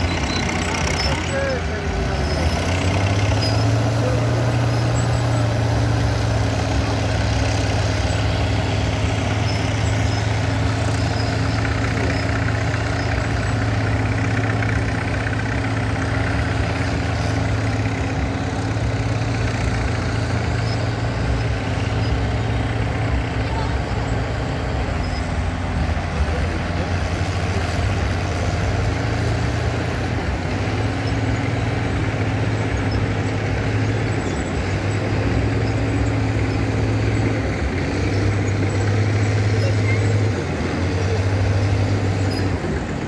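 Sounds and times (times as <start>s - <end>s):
engine revving: 0.0s - 43.0s
heavy diesel engines running: 0.0s - 43.0s.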